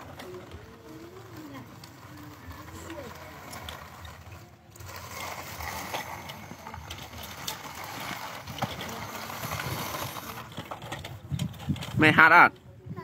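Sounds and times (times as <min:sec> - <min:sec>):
outdoor background noise: 0:00.0 - 0:13.0
toy vehicles scraping through soil: 0:00.0 - 0:13.0.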